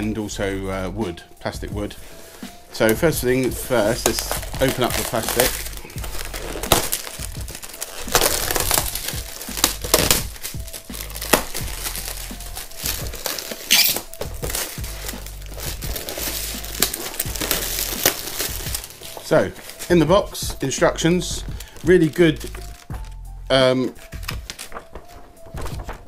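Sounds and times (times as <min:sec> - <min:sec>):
background music with bass: 0:00.0 - 0:26.0
plastic film crinkling: 0:01.8 - 0:26.0.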